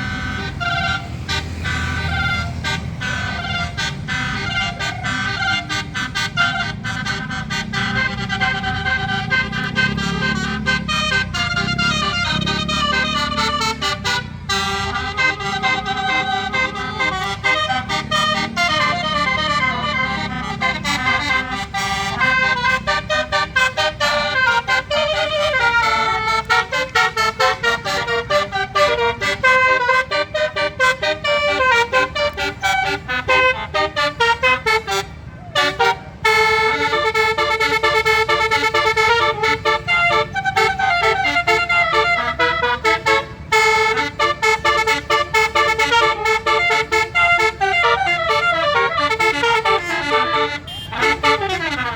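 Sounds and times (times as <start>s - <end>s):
melody horn playing a tune: 0.0s - 51.9s.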